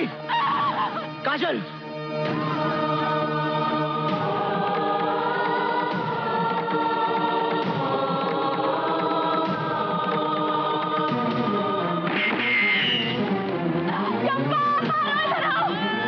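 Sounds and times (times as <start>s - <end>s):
choir singing long notes: 2.0s - 16.0s.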